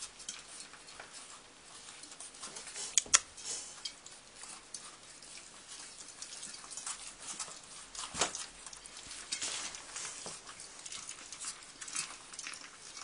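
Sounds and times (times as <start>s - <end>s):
puppies eating from metal bowl: 0.0s - 13.0s.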